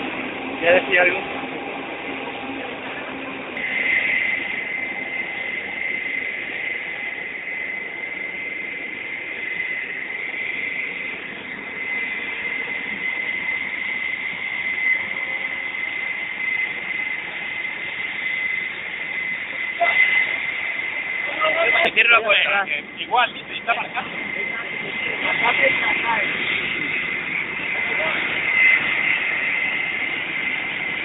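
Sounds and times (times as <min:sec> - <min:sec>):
aircraft turbine whine: 0:00.0 - 0:31.0.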